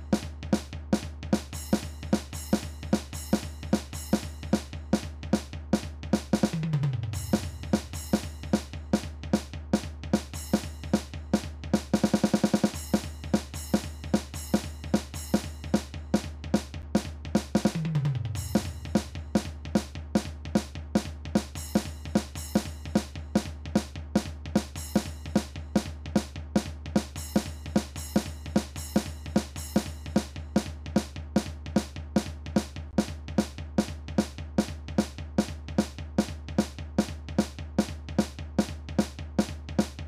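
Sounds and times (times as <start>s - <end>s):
drum kit playing punk beat: 0.0s - 40.0s
snare drum rapid hits: 0.0s - 40.0s.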